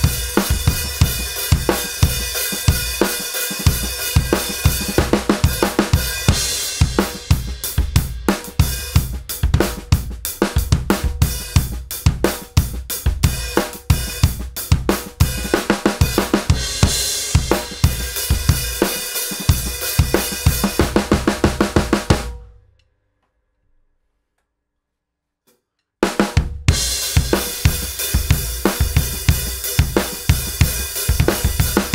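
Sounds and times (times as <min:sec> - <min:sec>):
drum kit playing a steady groove: 0:00.0 - 0:22.5, 0:26.0 - 0:31.9.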